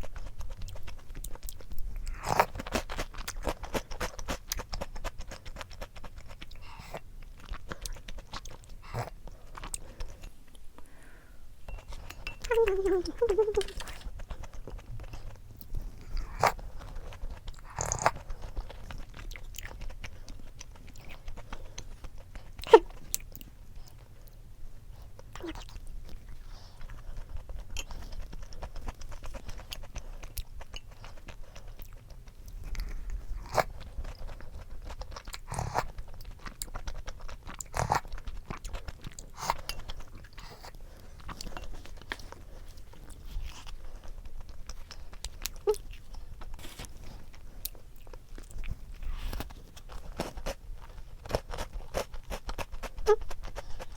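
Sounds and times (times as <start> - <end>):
chewing: 0.0 - 53.9.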